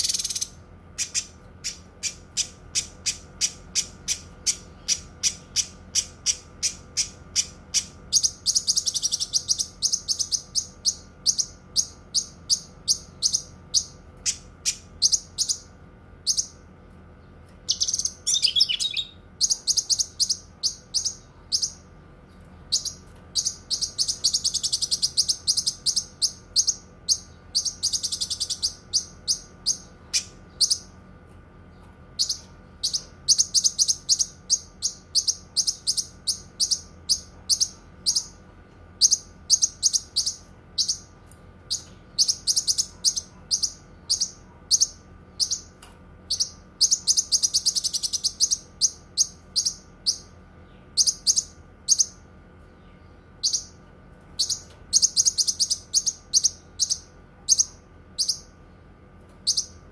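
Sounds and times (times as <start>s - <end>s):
songbird singing rapid trills: 0.0s - 16.6s, 17.6s - 21.9s, 22.7s - 30.9s, 32.2s - 38.4s, 39.0s - 41.1s, 41.7s - 45.7s, 46.3s - 52.2s, 52.8s - 53.8s, 54.4s - 58.5s, 59.4s - 59.8s.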